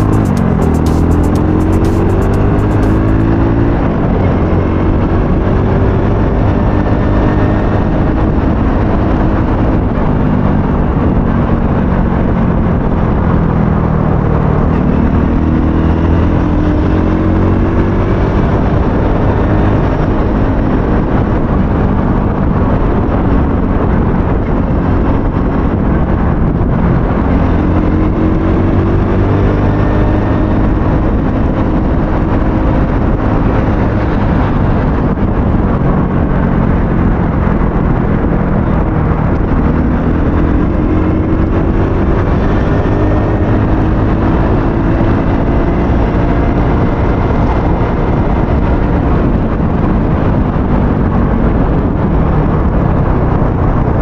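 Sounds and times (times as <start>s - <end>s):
motorbike engine speeding up: 0.0s - 54.0s
wind rush on microphone: 0.0s - 54.0s.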